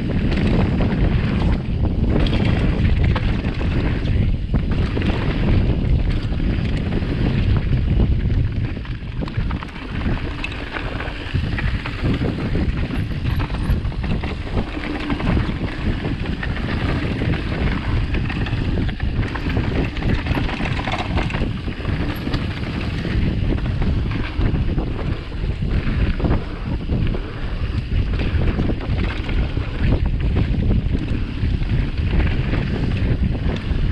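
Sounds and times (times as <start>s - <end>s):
bike knocks and rattles: 0.0s - 33.9s
bike tyre noise: 0.0s - 33.9s
wind buffeting microphone: 0.0s - 33.9s.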